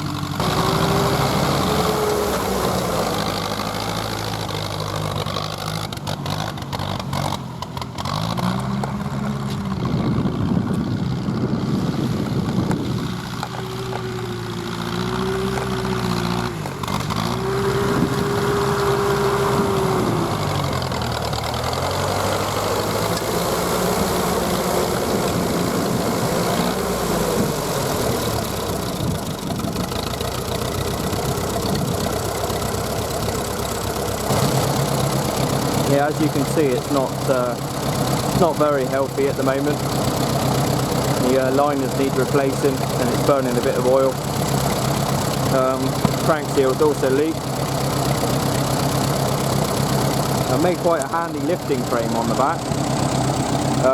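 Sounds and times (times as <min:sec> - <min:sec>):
tractor engine revving: 0:00.0 - 0:53.9.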